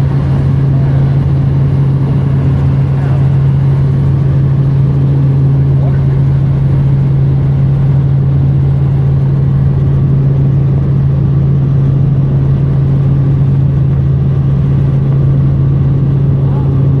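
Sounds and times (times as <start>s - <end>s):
helicopter droning: 0.0s - 17.0s.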